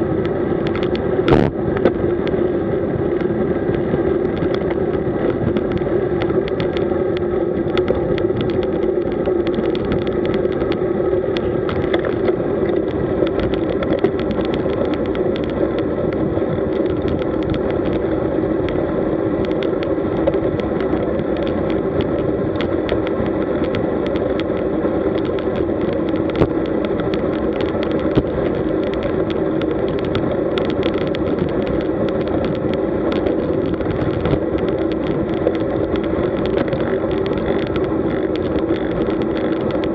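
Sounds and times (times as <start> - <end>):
bike clicks and rattles over bumps: 0.0 - 39.9
tyre road and wind noise: 0.0 - 39.9.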